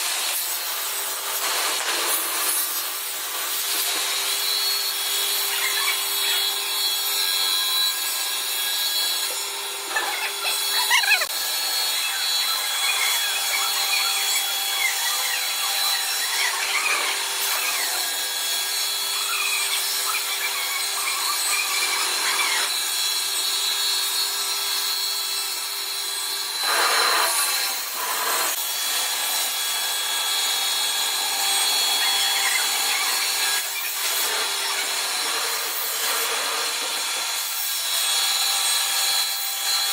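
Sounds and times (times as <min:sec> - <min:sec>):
saw blade cutting wood: 0:00.0 - 0:39.9.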